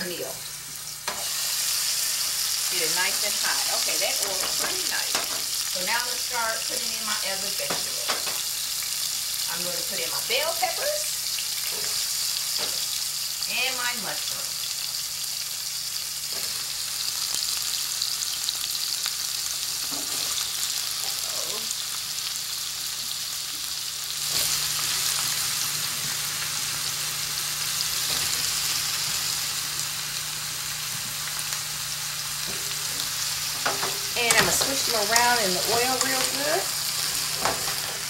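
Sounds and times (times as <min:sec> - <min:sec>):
vegetables sizzling in frying pan: 0:00.0 - 0:38.0.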